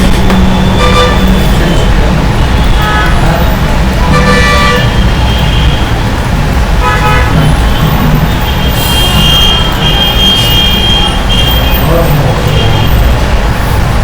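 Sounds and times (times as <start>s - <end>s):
vehicle horns honking: 0.0s - 13.2s
road traffic rumble: 0.0s - 14.0s.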